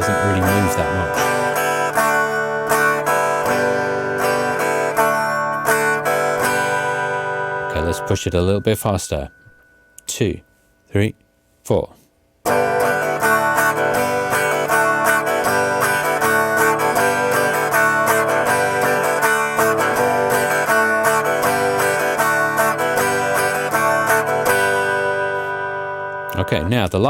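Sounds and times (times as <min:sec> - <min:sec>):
acoustic guitar strumming: 0:00.0 - 0:11.2, 0:12.4 - 0:27.0.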